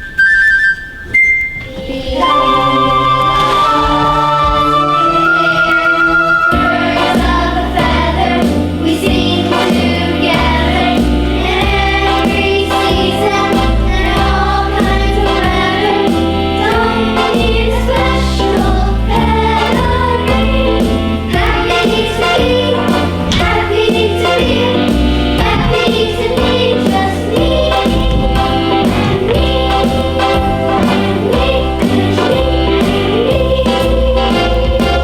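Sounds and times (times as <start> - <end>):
group of voices singing: 1.7 - 35.0
instrumental accompaniment with bass: 2.8 - 35.0.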